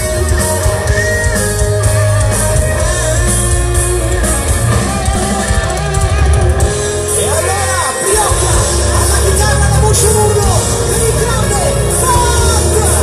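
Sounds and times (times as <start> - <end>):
electric guitar: 0.0 - 13.0
heavy bass: 0.0 - 13.0
live rock band playing: 0.0 - 13.0.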